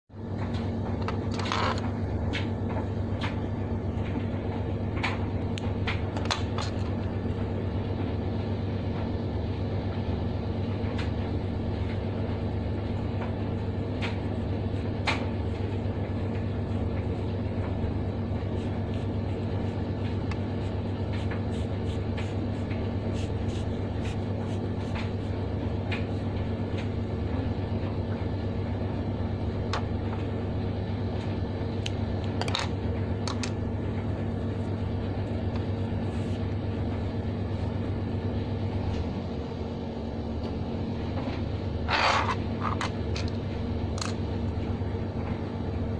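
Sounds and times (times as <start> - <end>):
low machine hum: 0.1 - 45.9.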